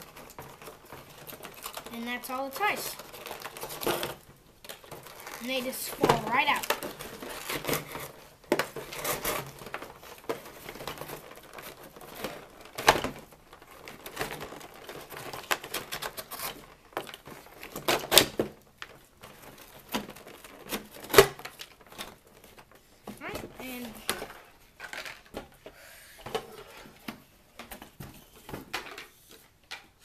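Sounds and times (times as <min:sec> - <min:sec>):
cardboard rustling and scraping: 0:00.0 - 0:25.6.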